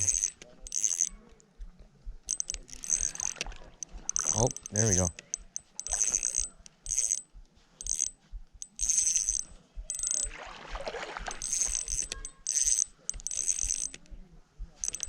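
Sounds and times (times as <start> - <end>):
fishing reel whirring: 0.0 - 1.2, 2.3 - 10.3, 11.3 - 14.0, 14.8 - 15.0.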